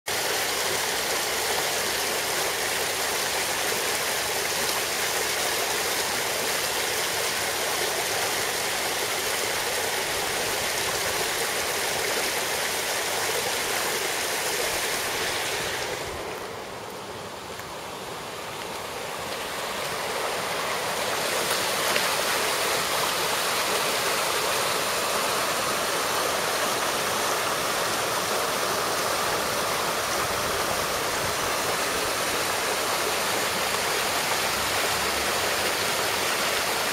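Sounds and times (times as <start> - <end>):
water rushing over ice: 0.1 - 36.9.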